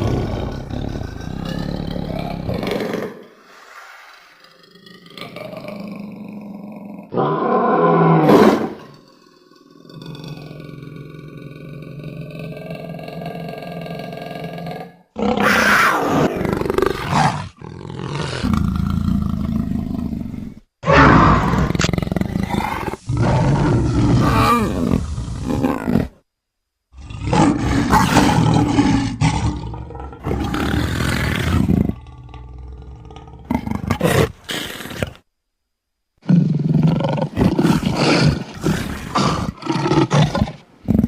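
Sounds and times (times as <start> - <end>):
big cat roars and snarls: 0.0 - 26.2, 26.9 - 35.2, 36.2 - 41.0.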